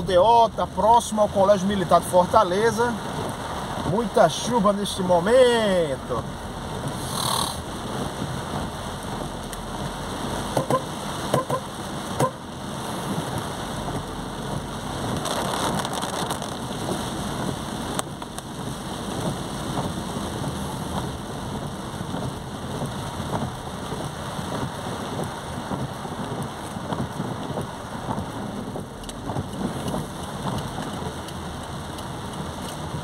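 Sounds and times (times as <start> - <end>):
heavy rain on car: 0.0 - 33.0.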